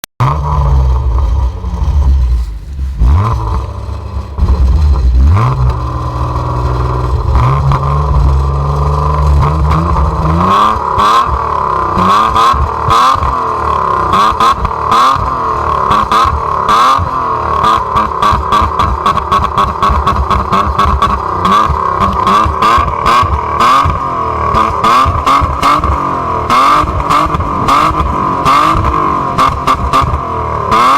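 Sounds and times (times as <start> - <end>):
car engine revving: 0.2 - 30.9
sharp clatter: 0.2 - 30.9.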